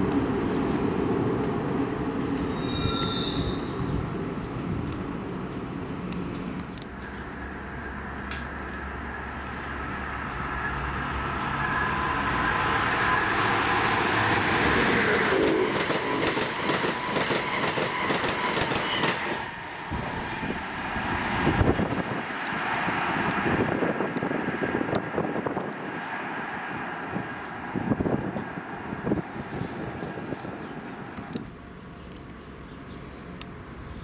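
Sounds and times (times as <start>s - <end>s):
train wheels on rails: 0.0s - 5.2s, 6.0s - 31.6s.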